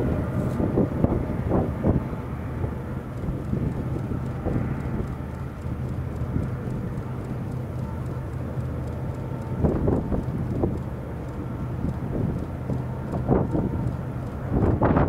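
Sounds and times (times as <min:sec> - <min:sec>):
distant diesel locomotives droning: 0:00.0 - 0:15.0
wind buffeting microphone: 0:00.0 - 0:15.0.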